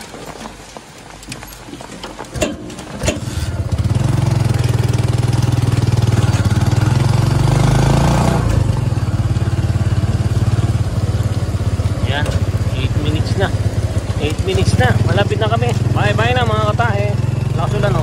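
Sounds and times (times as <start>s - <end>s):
motorcycle engine revving: 2.3s - 18.0s.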